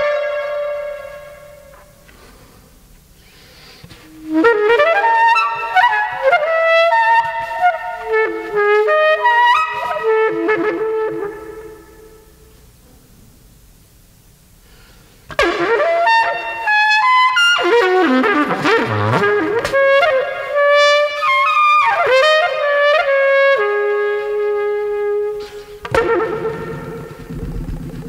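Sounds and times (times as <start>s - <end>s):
solo trumpet: 0.0s - 2.1s, 3.2s - 13.0s, 15.3s - 28.0s.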